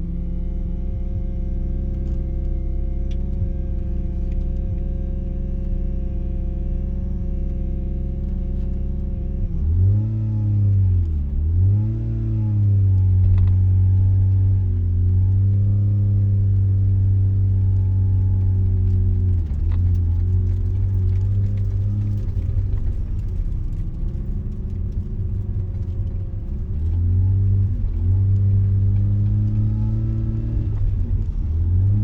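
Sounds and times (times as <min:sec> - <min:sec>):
rotary car engine: 0:00.0 - 0:32.0.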